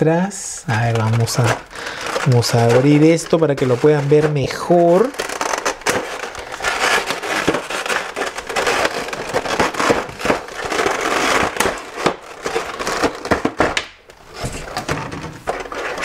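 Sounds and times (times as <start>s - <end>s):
plastic packaging crinkling: 0.6s - 16.0s.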